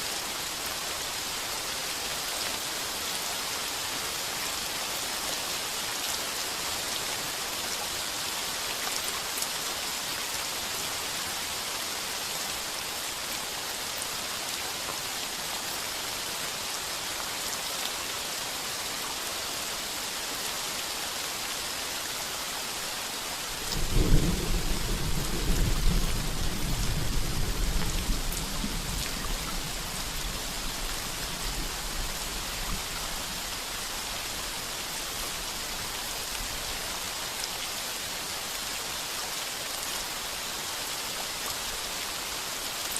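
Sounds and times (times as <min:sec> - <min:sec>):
heavy rain on a tin roof: 0:00.0 - 0:42.9.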